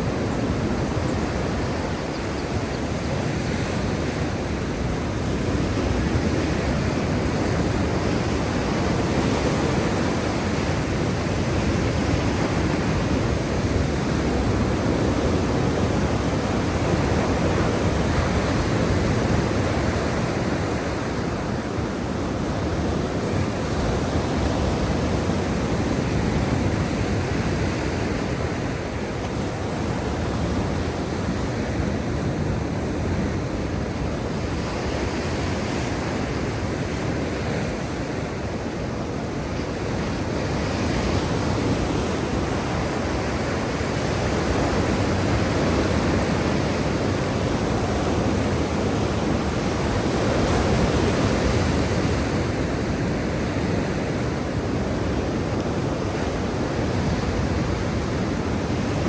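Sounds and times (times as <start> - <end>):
surf washing in: 0.0 - 59.0.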